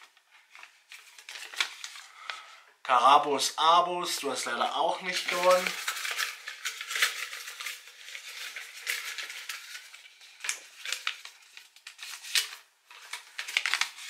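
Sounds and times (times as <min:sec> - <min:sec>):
paper crinkling and rustling: 0:00.0 - 0:02.4, 0:04.9 - 0:14.0.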